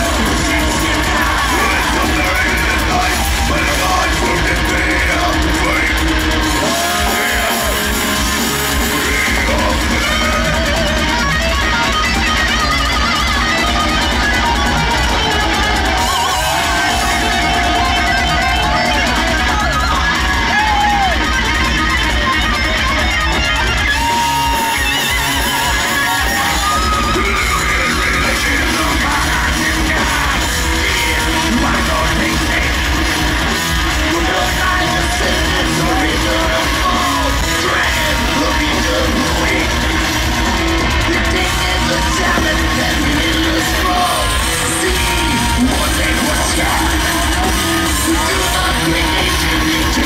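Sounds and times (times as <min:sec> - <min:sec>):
live thrash metal band: 0:00.0 - 0:50.0.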